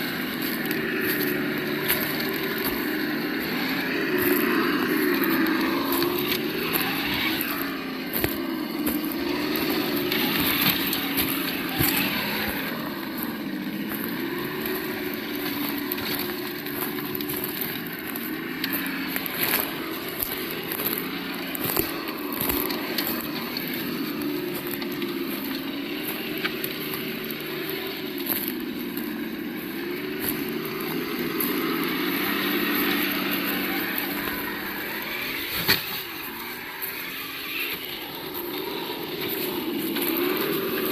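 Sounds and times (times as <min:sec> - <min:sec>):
simulated engine through speaker: 0:00.0 - 0:40.9.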